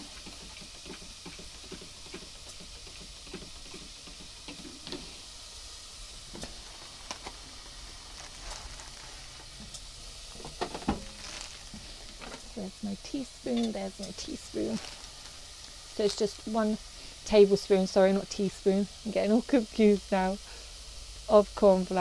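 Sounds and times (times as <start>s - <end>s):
leek and garlic sizzling in oil: 0.0s - 22.0s.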